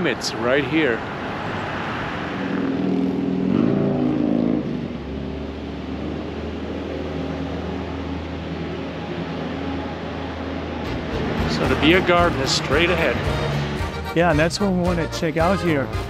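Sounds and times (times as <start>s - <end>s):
low engine hum: 0.8s - 14.0s
car accelerating past: 0.9s - 14.0s.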